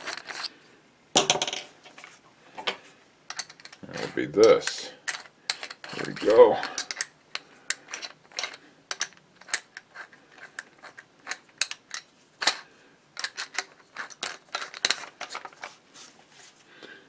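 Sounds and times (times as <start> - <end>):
small hard parts clicking and rattling: 0.0 - 0.5, 2.6 - 15.8.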